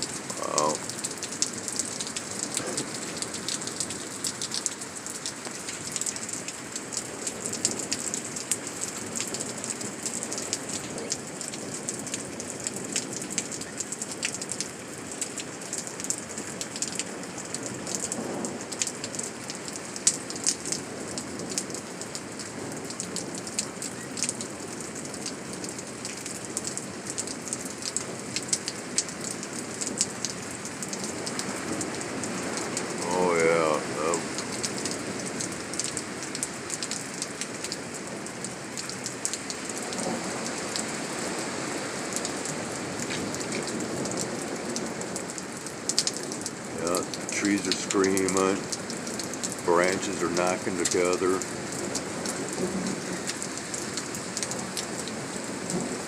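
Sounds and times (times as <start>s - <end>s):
rain splashing on hard surfaces: 0.0s - 56.0s.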